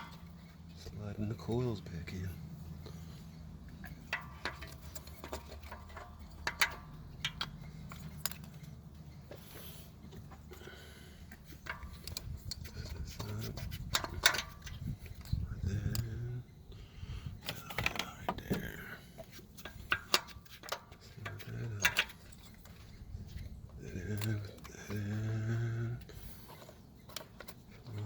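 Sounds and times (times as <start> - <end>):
clicks and knocks of handling parts: 0.0 - 1.5, 2.7 - 16.2, 17.3 - 28.0
low steady hum: 0.0 - 28.0.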